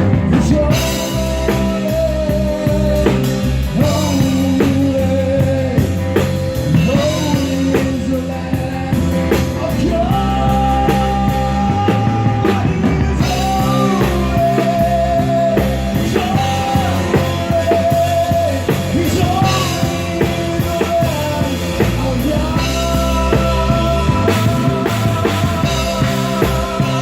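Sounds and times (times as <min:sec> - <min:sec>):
person singing: 0:00.0 - 0:27.0
rock band playing: 0:00.0 - 0:27.0.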